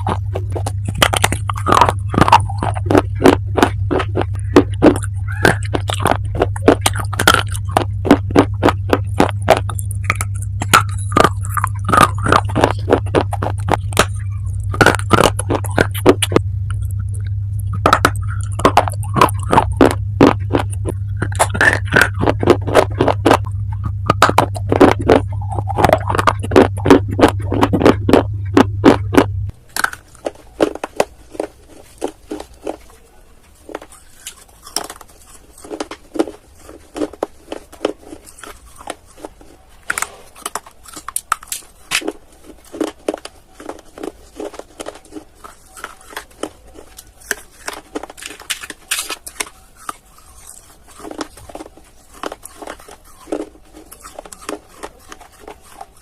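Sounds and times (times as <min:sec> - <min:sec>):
crunchy chewing: 0:00.0 - 0:56.0
steady low hum: 0:00.0 - 0:56.0.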